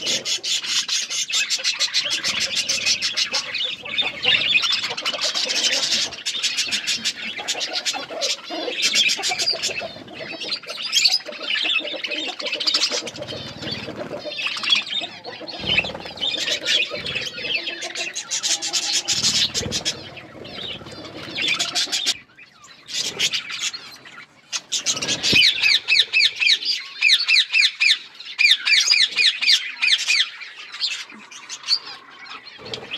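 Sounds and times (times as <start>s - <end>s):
budgerigars chirping and chattering: 0.0s - 32.9s.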